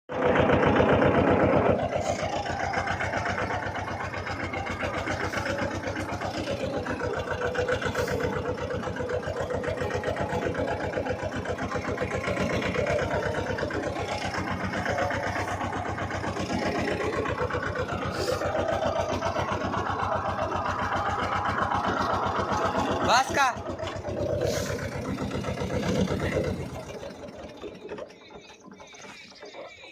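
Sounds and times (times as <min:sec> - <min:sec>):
tractor engine running: 0:00.1 - 0:29.9.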